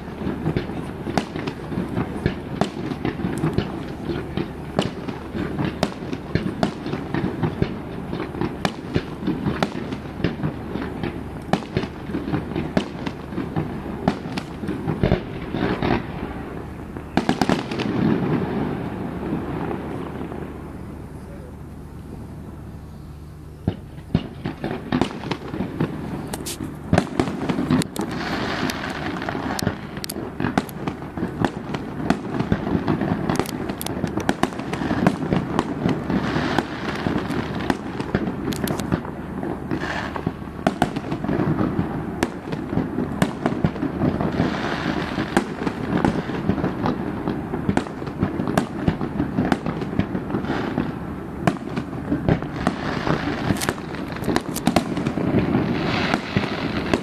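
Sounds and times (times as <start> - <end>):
fireworks bangs and cracks: 0.0 - 21.3, 23.6 - 57.0
fireworks crackling: 0.0 - 57.0.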